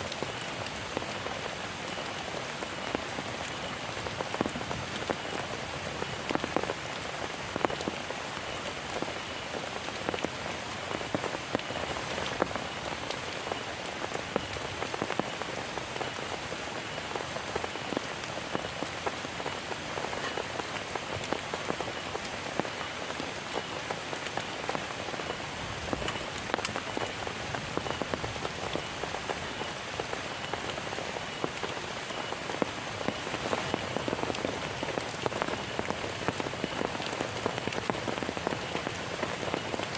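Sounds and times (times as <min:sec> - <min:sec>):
heavy rain hiss: 0:00.0 - 0:39.9
raindrops pattering on surface: 0:00.0 - 0:39.9.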